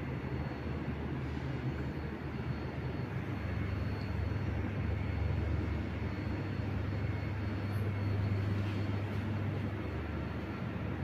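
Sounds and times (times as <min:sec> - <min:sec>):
ceiling fan air rush: 0:00.0 - 0:11.0
low fan rumble: 0:00.0 - 0:11.0.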